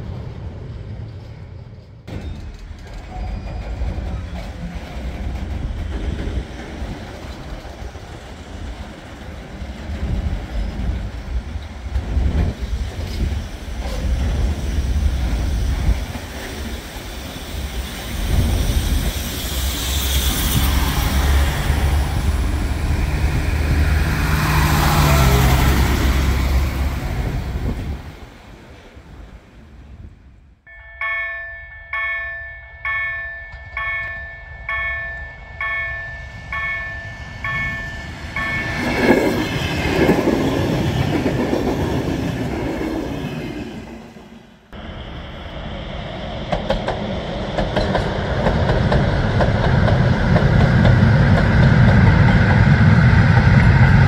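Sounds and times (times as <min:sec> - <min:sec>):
passenger railcar approaching: 0:00.0 - 0:54.0.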